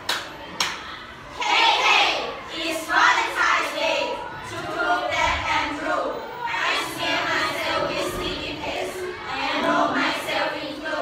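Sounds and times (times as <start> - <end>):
many voices reading aloud in unison: 0.8 - 11.0.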